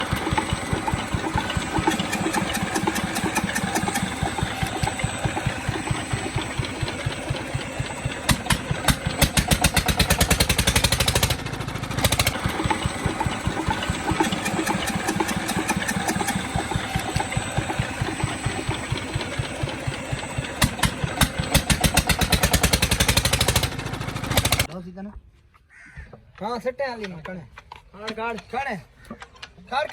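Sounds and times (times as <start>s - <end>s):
diesel engine thumping: 0.0s - 24.7s.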